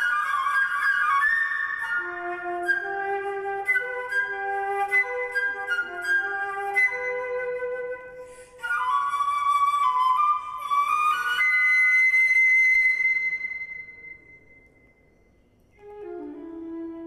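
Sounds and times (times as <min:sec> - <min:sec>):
solo flute playing: 0:00.0 - 0:14.8, 0:15.7 - 0:17.0.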